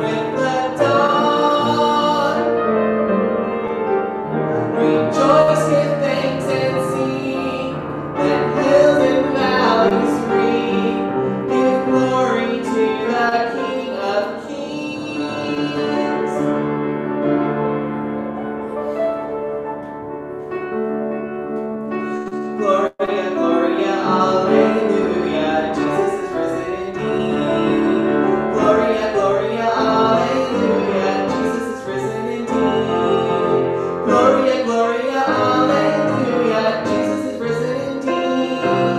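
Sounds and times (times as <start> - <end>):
piano playing church music: 0.0 - 38.9.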